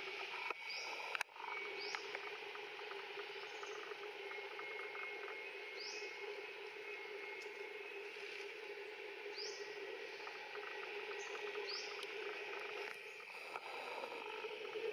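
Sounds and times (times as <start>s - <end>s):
steady background hum: 0.0s - 14.9s.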